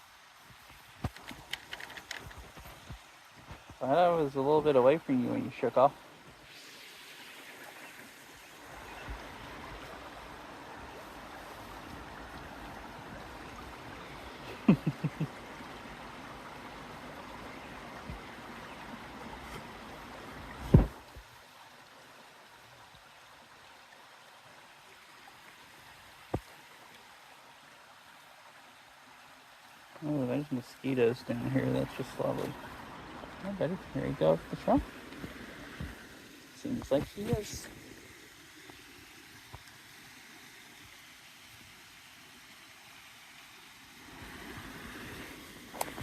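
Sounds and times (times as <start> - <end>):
creek water running: 0.0 - 46.0.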